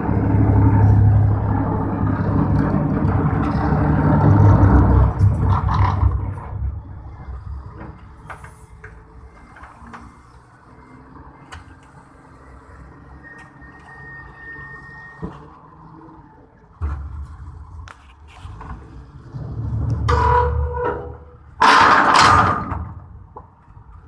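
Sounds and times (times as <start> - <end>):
forklift engine rumbling: 0.0 - 24.0.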